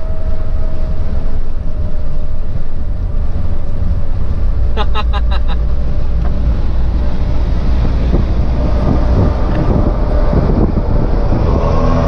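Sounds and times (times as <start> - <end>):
truck engine running: 0.0 - 11.4
road and wind noise: 0.0 - 12.0.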